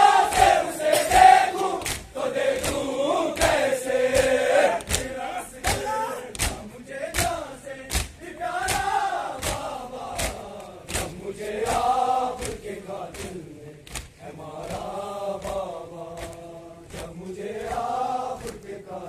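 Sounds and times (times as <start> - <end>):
crowd of men chanting: 0.0 - 19.0
chest beating slaps: 0.3 - 18.6.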